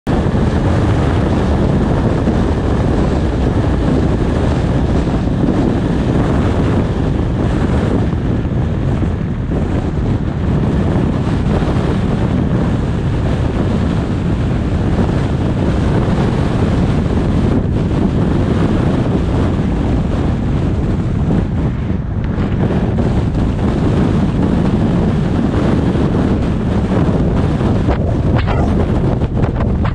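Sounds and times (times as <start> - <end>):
car road noise: 0.0 - 29.9
wind buffeting microphone: 0.0 - 29.9.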